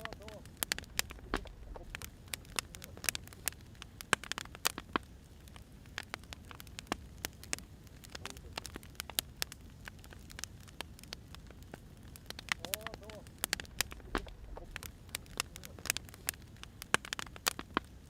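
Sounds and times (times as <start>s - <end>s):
low steady rumble: 0.0s - 4.3s, 4.9s - 16.9s
wood fire crackling: 0.0s - 18.0s.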